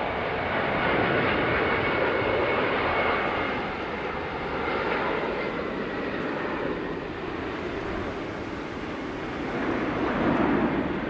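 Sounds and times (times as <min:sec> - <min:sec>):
jet airliner engines running: 0:00.0 - 0:11.0.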